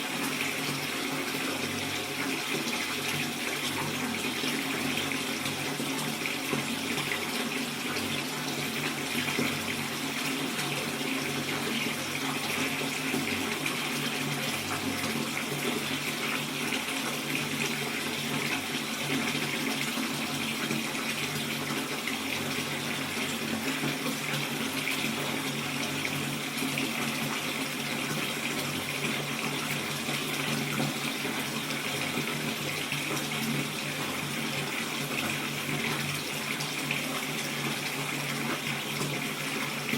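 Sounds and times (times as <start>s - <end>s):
tap water filling bathtub: 0.0s - 39.9s.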